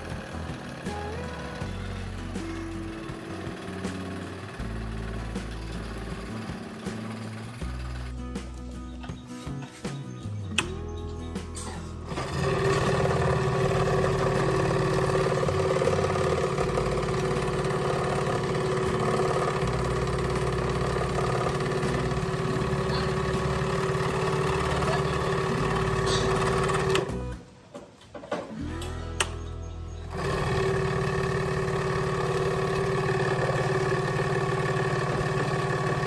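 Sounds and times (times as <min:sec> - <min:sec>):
exercise machine motor humming: 0:00.0 - 0:08.3, 0:12.0 - 0:27.4, 0:30.0 - 0:36.0.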